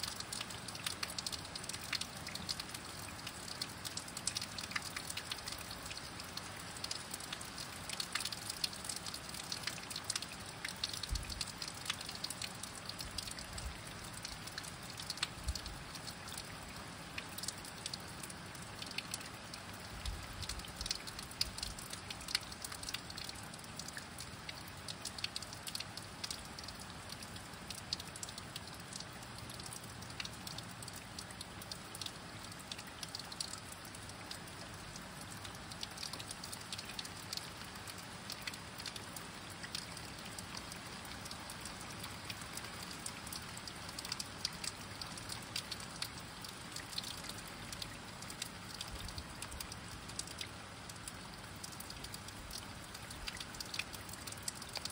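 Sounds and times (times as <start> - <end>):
raindrops ticking: 0.0 - 54.9.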